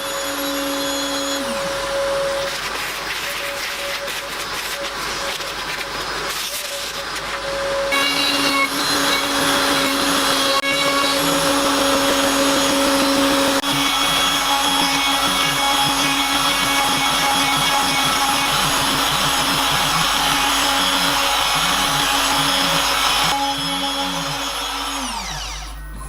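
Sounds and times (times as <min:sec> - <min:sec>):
cnc router milling wood: 0:00.0 - 0:26.0.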